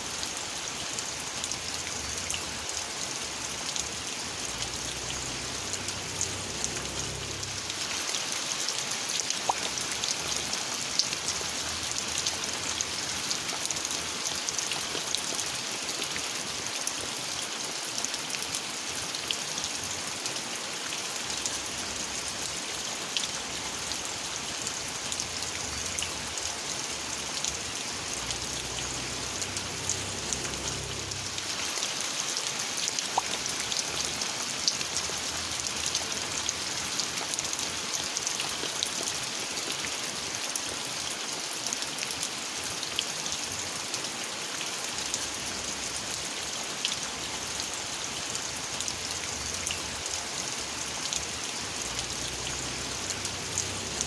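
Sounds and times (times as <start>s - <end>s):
steady rain falling: 0.0s - 54.0s
raindrops tapping on surfaces: 0.3s - 54.0s.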